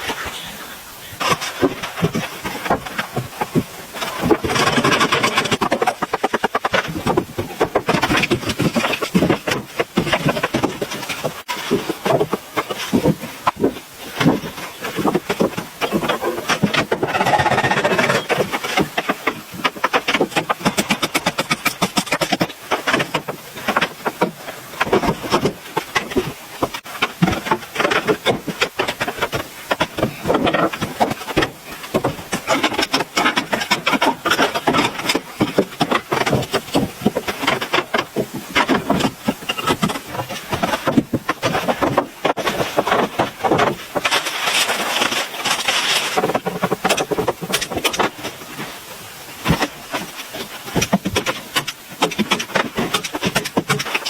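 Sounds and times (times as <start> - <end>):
knocking and scraping: 0.0 - 54.0
steady rasping noise: 0.0 - 54.0.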